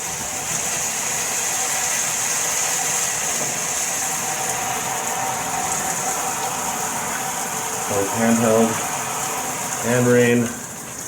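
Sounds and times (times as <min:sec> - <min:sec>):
shower head spraying water: 0:00.0 - 0:11.0.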